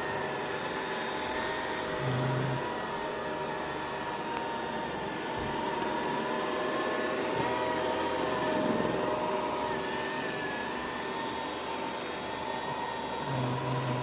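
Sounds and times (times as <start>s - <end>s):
robot vacuum cleaner whirring: 0.0s - 14.0s.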